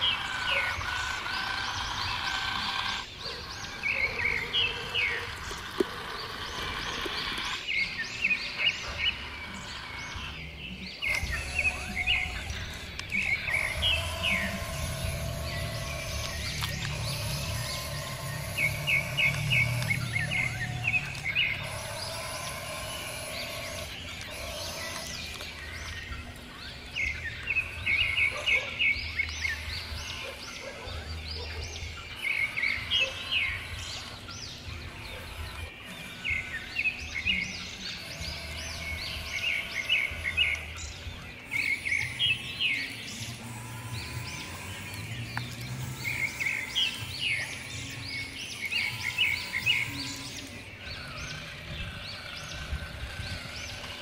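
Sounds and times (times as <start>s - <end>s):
birds chirping in trills: 0.0s - 54.0s.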